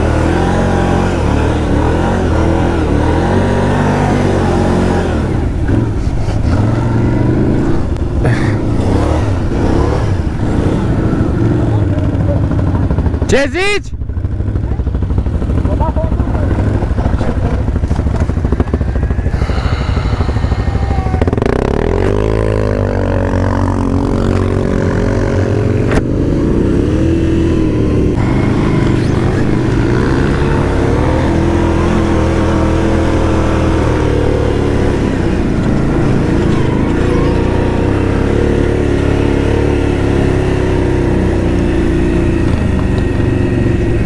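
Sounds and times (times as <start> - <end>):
atv engine revving: 0.0 - 13.3, 14.0 - 44.0.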